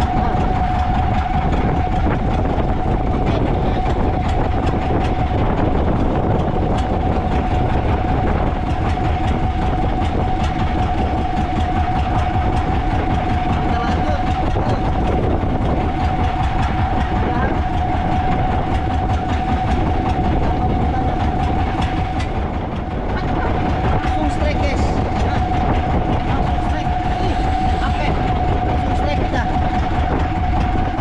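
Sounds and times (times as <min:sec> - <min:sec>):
boat motor whining: 0:00.0 - 0:31.0.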